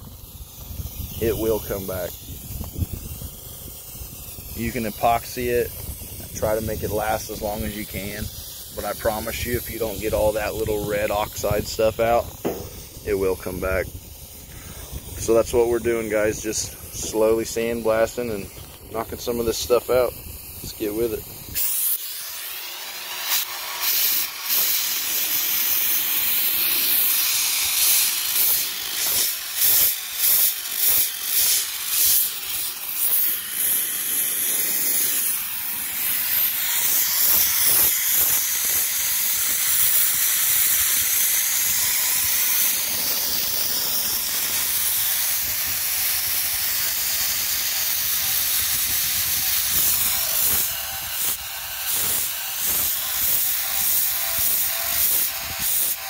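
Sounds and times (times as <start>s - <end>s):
sandblasting gun hissing: 0.0s - 56.0s.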